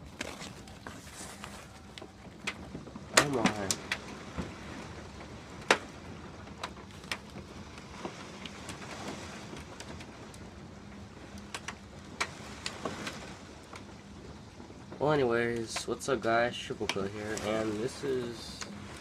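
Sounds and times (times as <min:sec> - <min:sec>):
strong storm wind blowing: 0:00.0 - 0:19.0.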